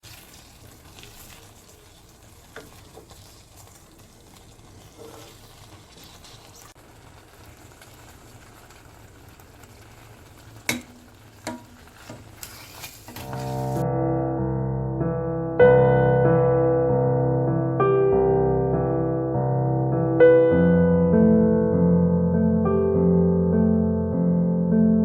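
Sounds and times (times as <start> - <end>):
steady sizzling hiss: 0.0 - 25.0.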